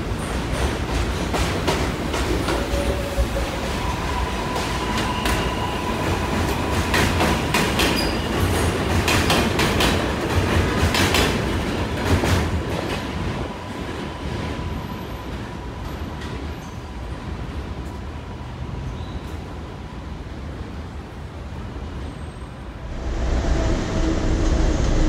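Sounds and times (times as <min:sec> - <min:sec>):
subway train running past: 0:00.0 - 0:25.0.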